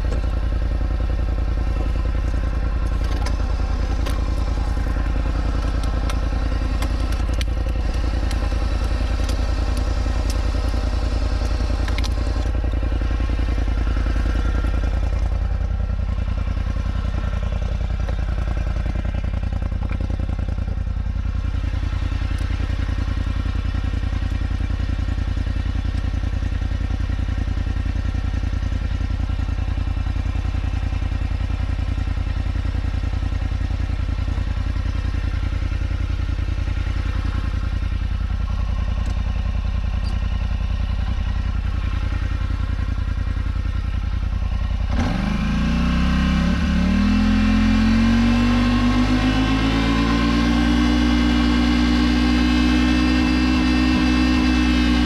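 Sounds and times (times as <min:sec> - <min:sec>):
atv engine idling and revving: 0:00.0 - 0:55.0.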